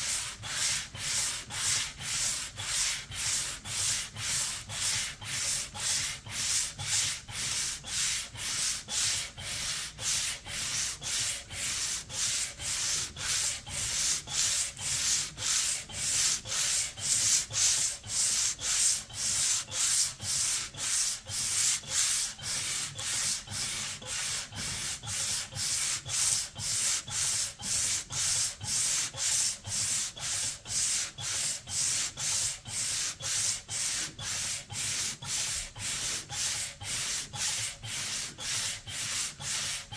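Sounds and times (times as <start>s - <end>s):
hand sanding with sandpaper: 0.0s - 39.9s.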